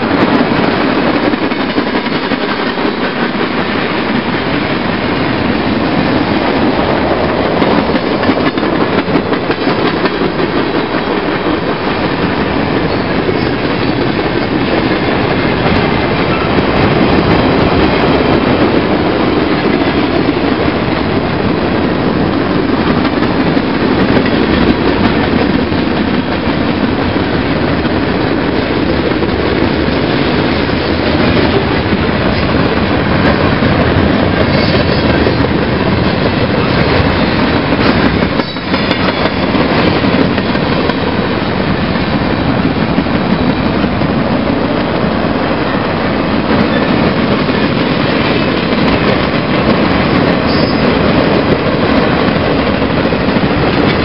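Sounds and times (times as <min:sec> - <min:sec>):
steel wheels running on rails: 0:00.0 - 0:54.0.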